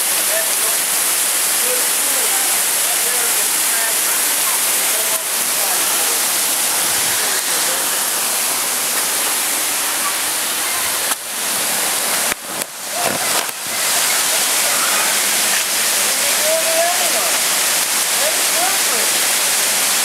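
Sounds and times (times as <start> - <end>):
waterfall rushing over boulders: 0.0 - 20.0.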